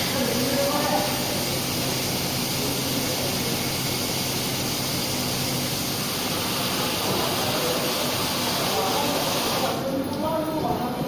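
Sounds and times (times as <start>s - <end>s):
coolant spraying hiss: 0.0s - 10.0s
low machine hum: 0.0s - 11.0s.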